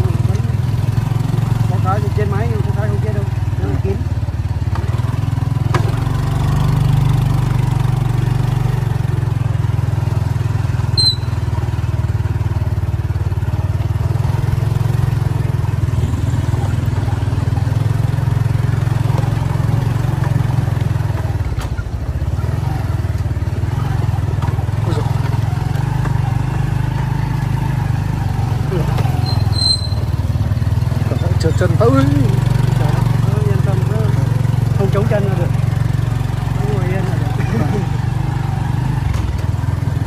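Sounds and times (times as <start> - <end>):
road noise: 0.0 - 40.0.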